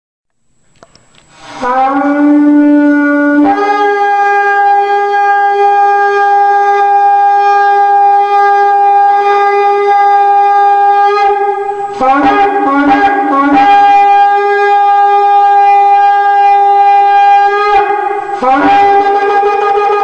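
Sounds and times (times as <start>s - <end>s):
shofar blast: 1.3s - 20.0s.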